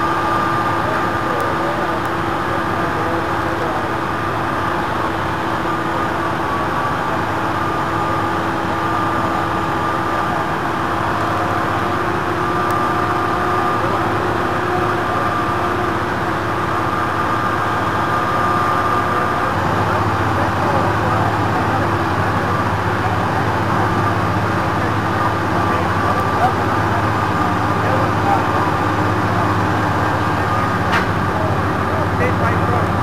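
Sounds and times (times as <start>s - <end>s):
heavy machinery running: 0.0s - 33.0s
held mechanical whine: 0.0s - 33.0s.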